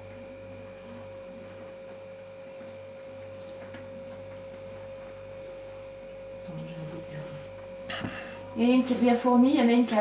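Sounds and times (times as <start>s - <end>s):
steady high-pitched hum: 0.0s - 10.0s.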